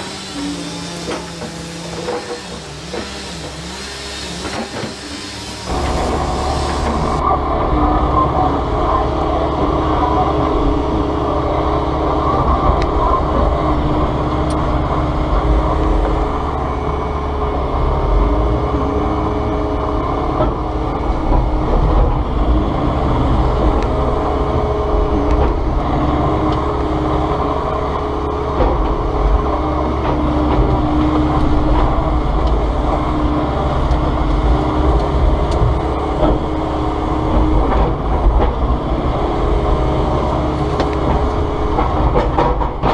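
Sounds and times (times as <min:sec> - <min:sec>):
pitched whine: 0:00.0 - 0:42.8
excavator engine drone: 0:00.0 - 0:42.9.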